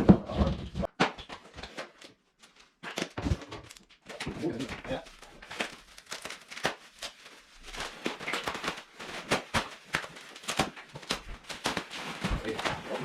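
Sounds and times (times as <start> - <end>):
rustling scrapes: 1.7 - 13.0.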